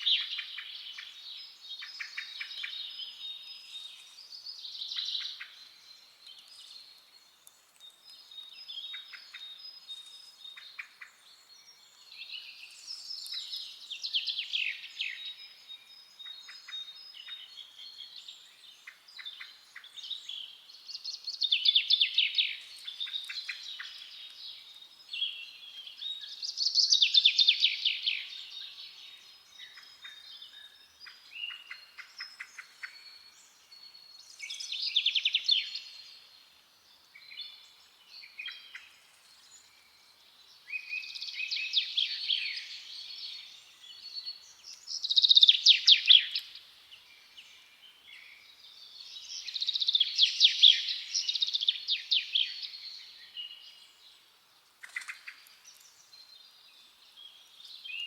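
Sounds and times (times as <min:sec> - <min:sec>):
quiet bird chirps: 0:00.0 - 0:58.0.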